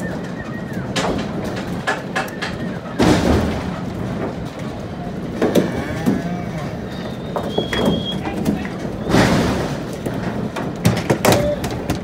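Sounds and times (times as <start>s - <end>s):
cattle bumping trailer sides: 0.0s - 12.0s
hooves knocking on metal trailer deck: 0.0s - 12.0s.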